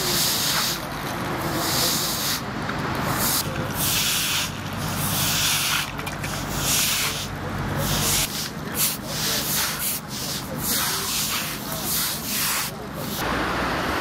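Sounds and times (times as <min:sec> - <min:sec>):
brooms sweeping wet asphalt: 0:00.0 - 0:14.0.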